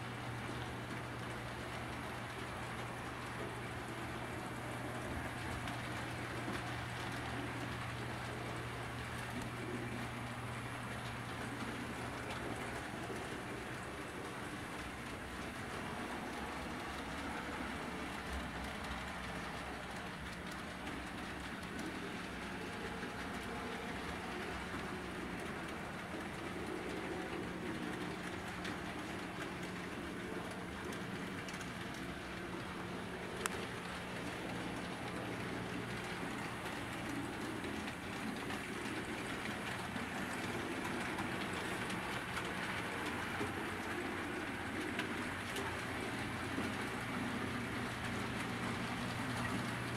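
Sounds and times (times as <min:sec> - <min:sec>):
model train wheels rumbling: 0:00.0 - 0:49.9
faint clicks: 0:00.3 - 0:49.9.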